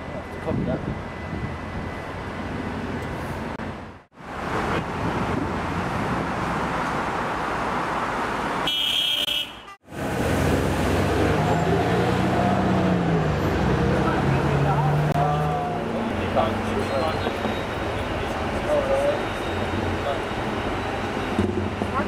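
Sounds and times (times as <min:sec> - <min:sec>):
busy street traffic: 0:00.0 - 0:22.0.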